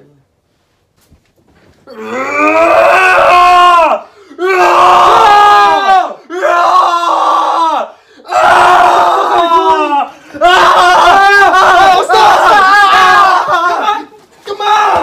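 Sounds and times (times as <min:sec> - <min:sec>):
person screaming: 0:01.9 - 0:15.0.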